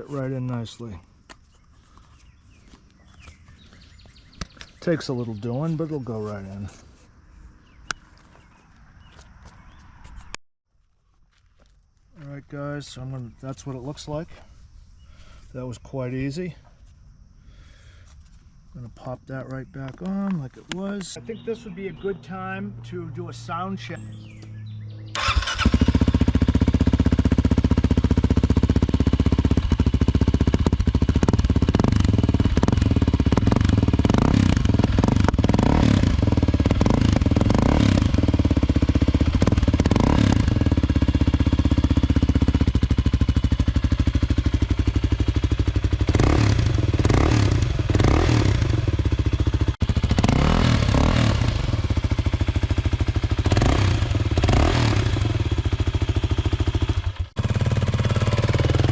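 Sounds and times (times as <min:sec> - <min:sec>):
motorcycle engine starting and running: 0:00.0 - 0:10.4, 0:19.4 - 0:58.9.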